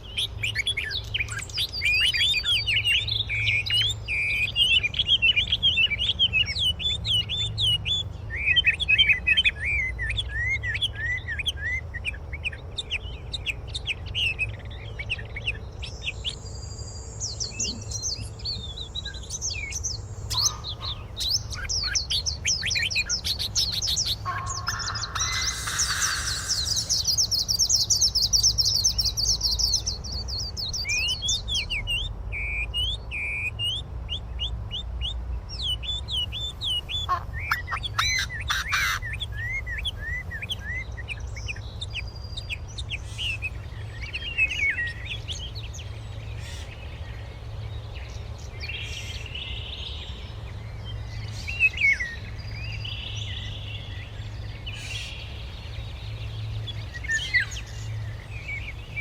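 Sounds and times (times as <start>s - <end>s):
birds singing and calling: 0.0s - 59.0s.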